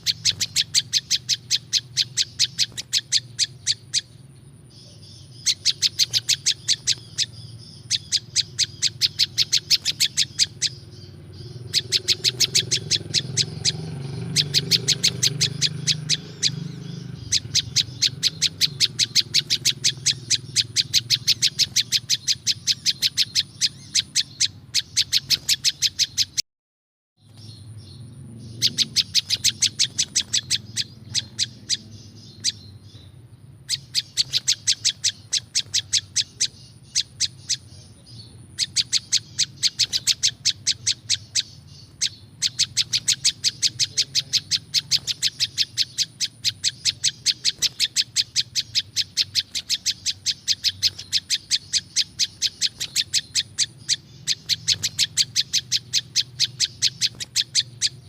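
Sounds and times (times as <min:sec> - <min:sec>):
songbird chirping: 0:00.0 - 0:26.4, 0:27.2 - 0:58.0.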